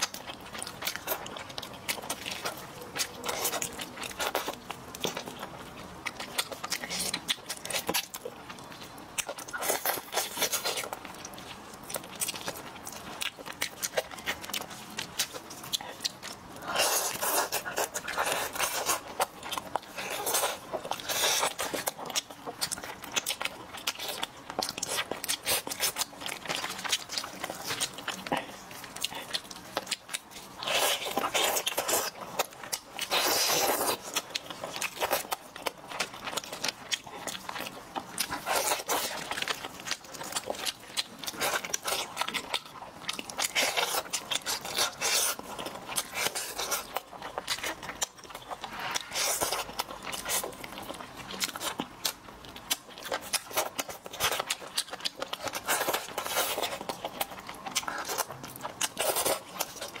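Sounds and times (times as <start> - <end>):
wet chewing and sucking: 0.0 - 60.0.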